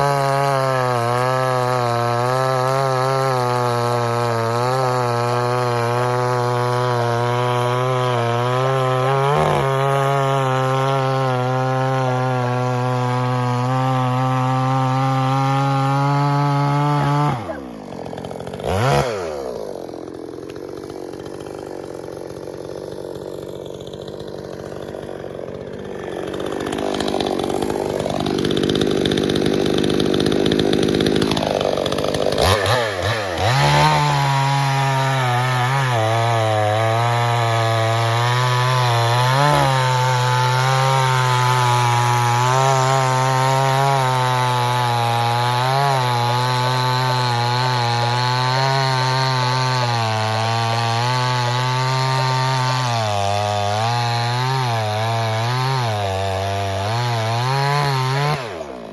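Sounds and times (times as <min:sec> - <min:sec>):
chainsaw revving: 0:00.0 - 0:58.9.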